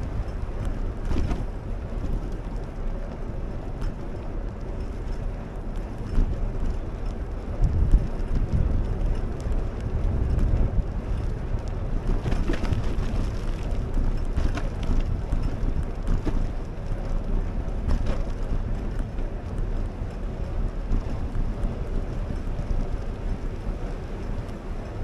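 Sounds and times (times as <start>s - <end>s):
wheels rumbling on pavement: 0.0s - 25.0s
wind buffeting microphone: 0.0s - 25.0s
wheels knocking over cracks: 0.1s - 24.5s.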